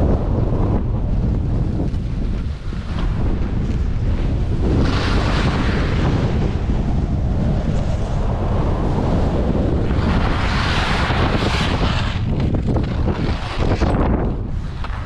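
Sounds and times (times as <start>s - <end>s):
skis sliding through snow: 0.0s - 15.0s
wind rushing over microphone: 0.0s - 15.0s.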